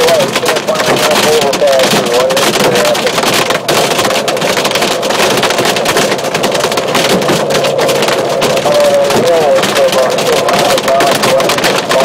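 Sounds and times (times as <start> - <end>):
hail clattering on truck cab: 0.0 - 12.0.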